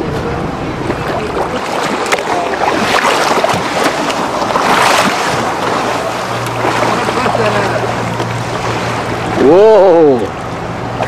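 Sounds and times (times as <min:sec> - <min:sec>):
boat engine hum: 0:00.0 - 0:11.0
water splashing by fish: 0:00.7 - 0:10.3.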